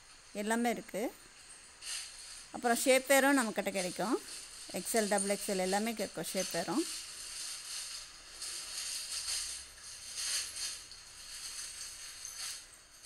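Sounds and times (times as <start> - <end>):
soft rustling and crinkling: 0.0 - 13.0.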